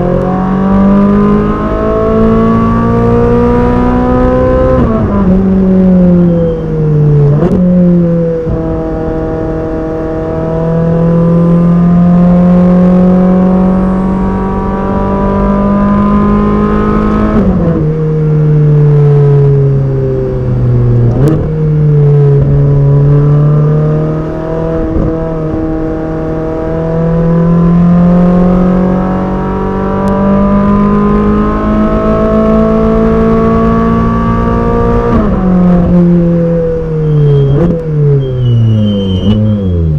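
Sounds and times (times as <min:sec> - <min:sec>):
sports car engine revving through gears: 0:00.0 - 0:39.9.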